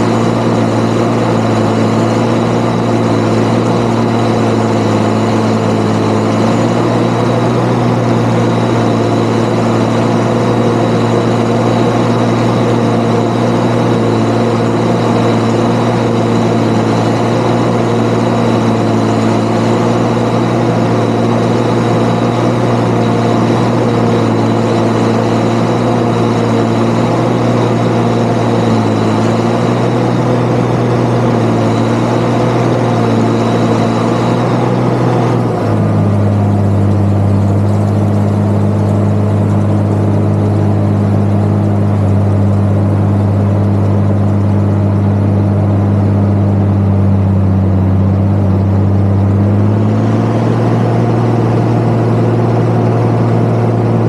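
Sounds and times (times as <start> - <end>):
high whine: 0.0 - 54.0
tractor engine running: 0.0 - 54.0.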